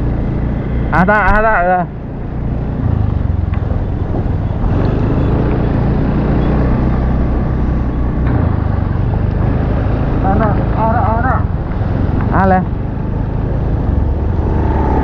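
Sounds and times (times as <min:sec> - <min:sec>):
engine low hum: 0:00.0 - 0:15.0
broad rushing noise: 0:01.9 - 0:15.0.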